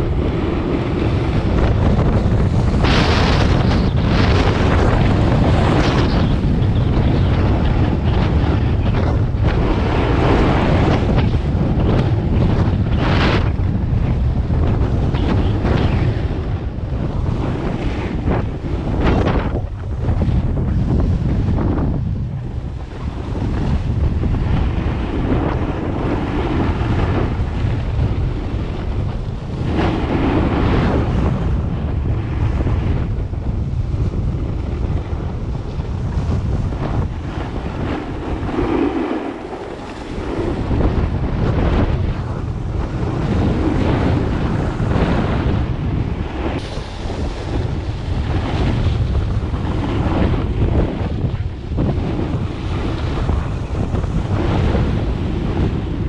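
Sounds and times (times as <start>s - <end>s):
low rumble: 0.0s - 56.0s
wind buffeting microphone: 0.0s - 56.0s.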